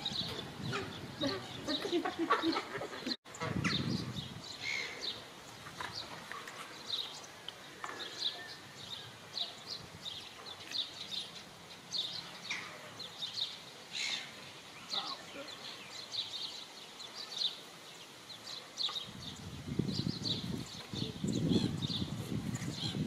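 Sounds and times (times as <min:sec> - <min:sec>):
birds chirping: 0:00.0 - 0:23.0
faint background noise: 0:00.0 - 0:23.0.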